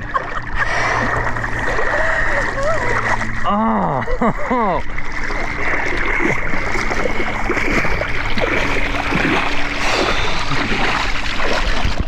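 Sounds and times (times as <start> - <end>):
water sloshing around wading person: 0.0 - 12.0.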